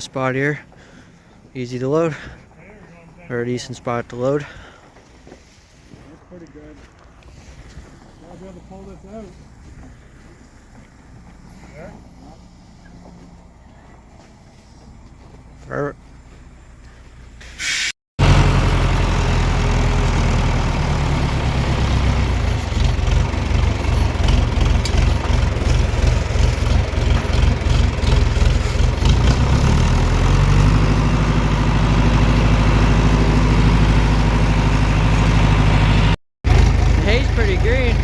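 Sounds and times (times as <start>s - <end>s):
tractor engine running: 0.0s - 17.6s, 18.2s - 38.0s.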